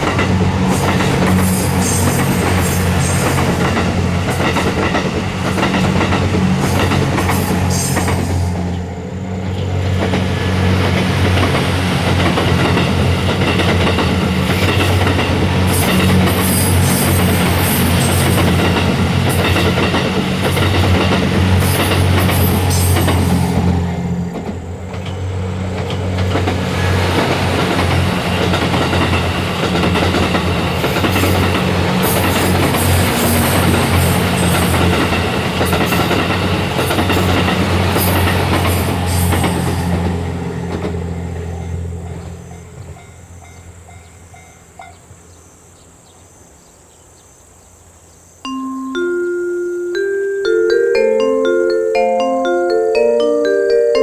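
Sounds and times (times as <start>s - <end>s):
train running past: 0.0s - 46.4s, 48.5s - 54.0s.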